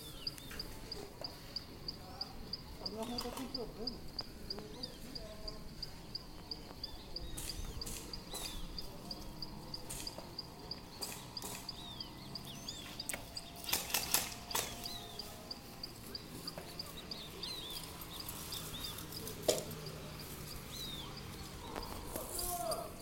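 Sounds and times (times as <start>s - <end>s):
sharp snaps: 2.5s - 21.0s.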